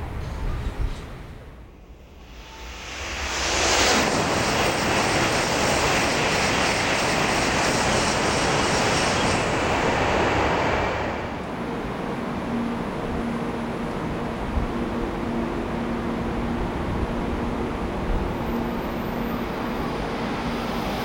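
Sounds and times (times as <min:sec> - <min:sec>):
high-speed train passing: 0:00.0 - 0:21.0.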